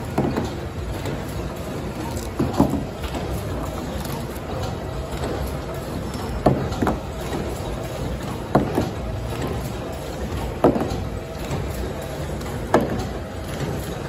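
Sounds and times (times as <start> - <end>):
wrapping machine running: 0.0 - 14.0.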